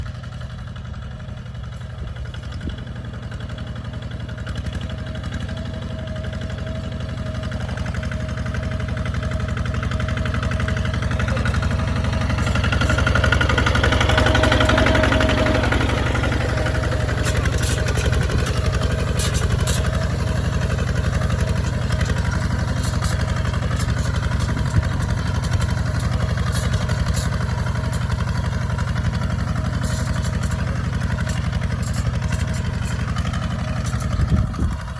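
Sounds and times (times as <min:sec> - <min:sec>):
single-cylinder diesel engine running: 0:00.0 - 0:34.9.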